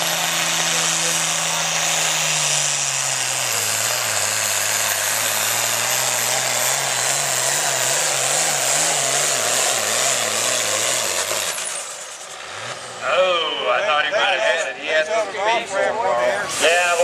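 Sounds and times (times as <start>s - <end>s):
tractor diesel engine at full throttle: 0.0s - 14.8s, 15.8s - 17.0s.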